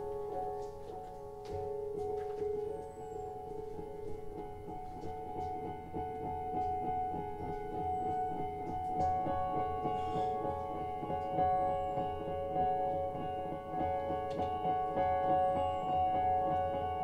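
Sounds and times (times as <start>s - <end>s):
keyboard chords and fast notes: 0.0s - 17.0s.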